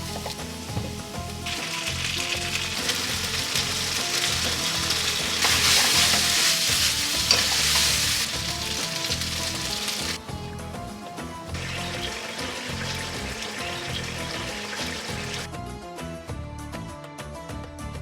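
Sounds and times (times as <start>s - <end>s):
food sizzling in a pan: 0.0s - 15.5s
background music with a beat: 0.0s - 18.0s.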